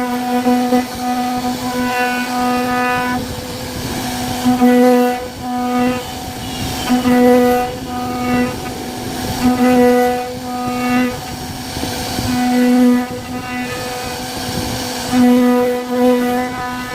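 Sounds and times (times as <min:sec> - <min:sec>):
router spindle cutting wood: 0:00.0 - 0:16.9.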